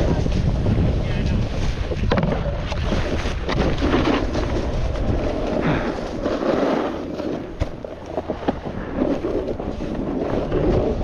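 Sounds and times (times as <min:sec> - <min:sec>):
snowboard scraping over snow: 0:00.0 - 0:11.0
wind on microphone: 0:00.0 - 0:11.0.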